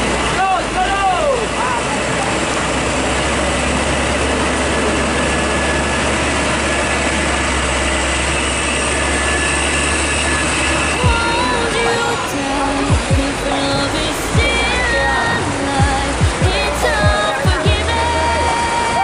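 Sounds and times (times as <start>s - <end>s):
diesel truck engine rumbling: 0.0s - 19.0s
heavy rain hissing: 0.0s - 19.0s.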